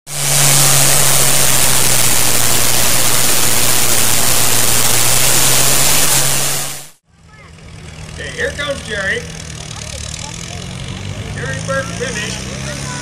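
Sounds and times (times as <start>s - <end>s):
tractor engine at high throttle: 0.0s - 13.0s.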